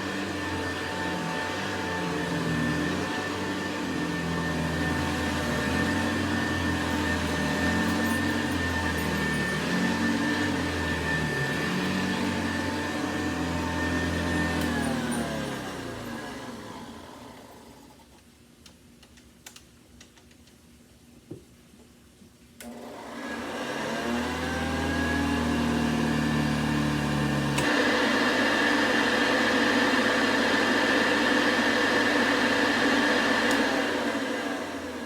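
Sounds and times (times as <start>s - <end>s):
vacuum cleaner motor whining: 0.0s - 18.0s, 22.6s - 35.0s.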